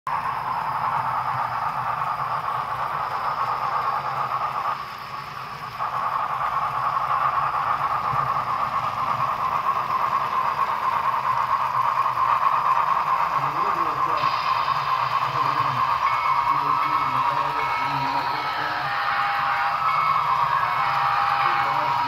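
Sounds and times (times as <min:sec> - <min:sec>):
model train running on track: 0:00.1 - 0:22.0.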